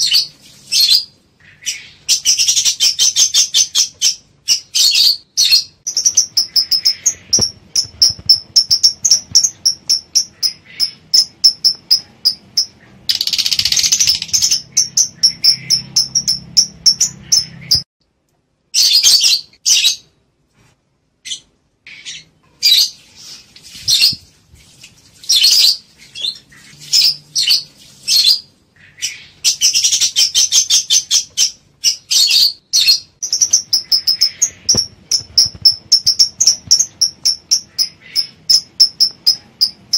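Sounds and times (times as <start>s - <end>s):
lovebirds chirping: 0.0s - 17.9s, 18.7s - 20.2s, 21.2s - 24.4s, 25.1s - 39.9s.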